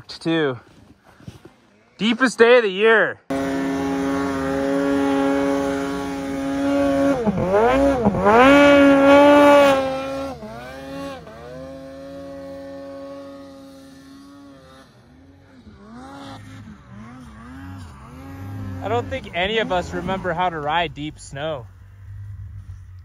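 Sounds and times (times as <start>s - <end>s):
snowmobile engine revving: 3.3s - 23.0s.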